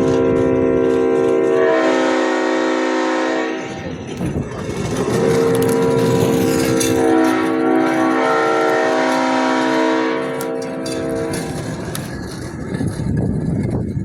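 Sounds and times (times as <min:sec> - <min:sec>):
locomotive air horn chord: 0:00.0 - 0:04.0, 0:05.0 - 0:12.2.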